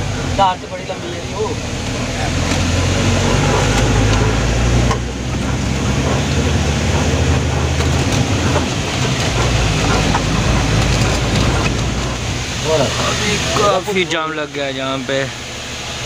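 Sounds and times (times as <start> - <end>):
road noise: 0.0 - 16.0
truck diesel engine droning: 0.0 - 16.0
light rattling: 0.4 - 14.2.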